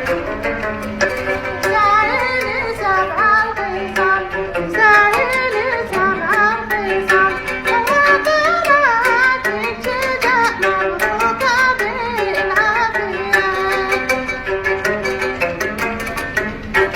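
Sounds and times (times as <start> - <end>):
oud plucked: 0.0 - 16.9.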